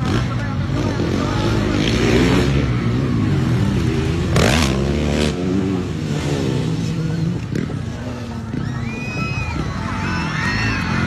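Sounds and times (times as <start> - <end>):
dirt bike engines revving: 0.0 - 11.0
loud rush of noise: 0.0 - 11.0.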